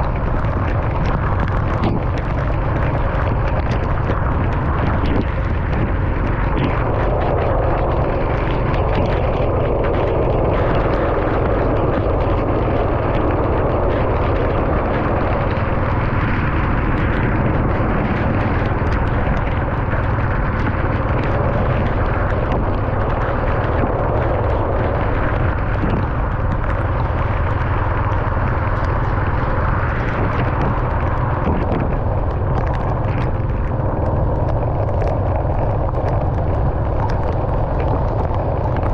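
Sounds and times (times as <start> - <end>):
car driving on wet road: 0.0 - 38.9
rain ticks: 0.0 - 38.9.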